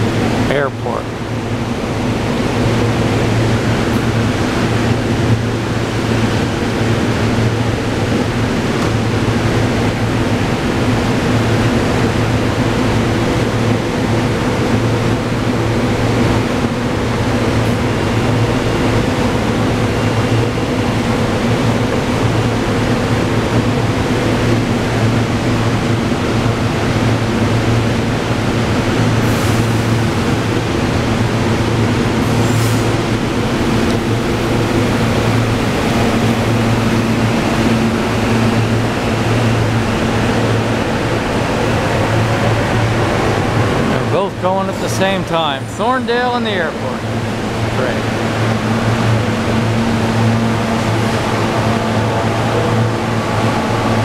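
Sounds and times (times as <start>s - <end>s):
electric train humming: 0.0s - 54.0s
train rumble: 0.0s - 54.0s.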